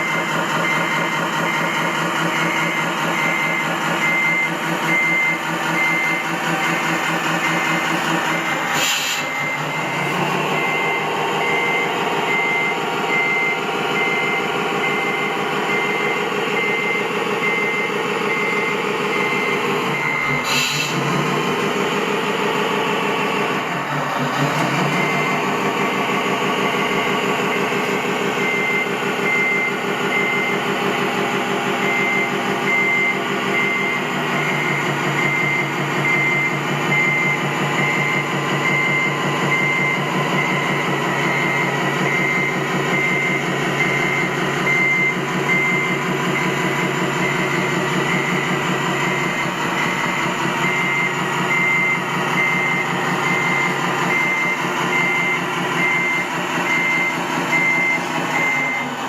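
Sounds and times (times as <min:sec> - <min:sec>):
reversing alarm beeping: 0:00.0 - 0:59.0
truck engine running: 0:00.0 - 0:59.0.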